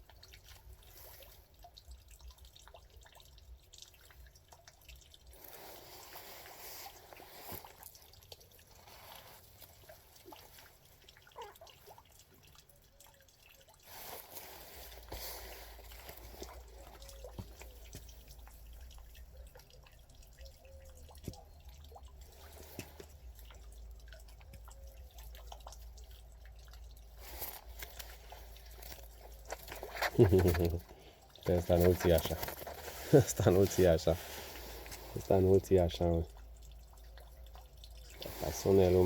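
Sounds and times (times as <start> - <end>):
pigeons cooing softly: 5.4 - 39.0.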